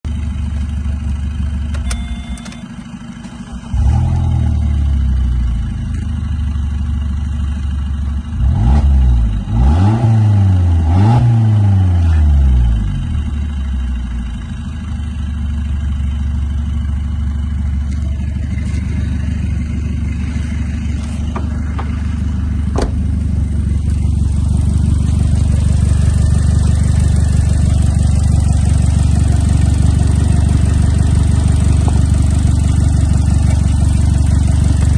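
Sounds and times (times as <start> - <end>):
car engine revving and idling: 0.1 - 34.9.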